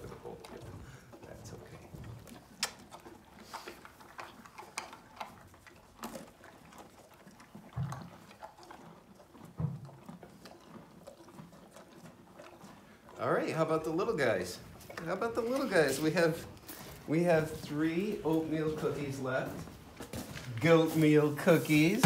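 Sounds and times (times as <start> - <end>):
horse chewing crunchily: 0.0 - 22.0.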